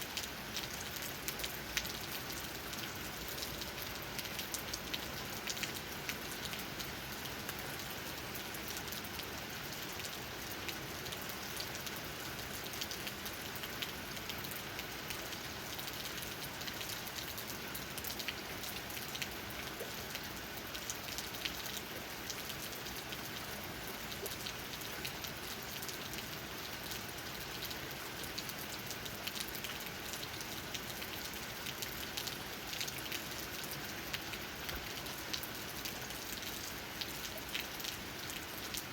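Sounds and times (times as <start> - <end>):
rain tapping on leaves: 0.0 - 38.9.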